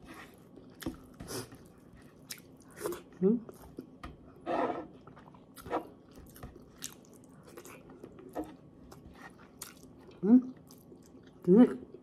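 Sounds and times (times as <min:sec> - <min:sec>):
person chewing: 0:00.2 - 0:04.0, 0:04.9 - 0:11.4.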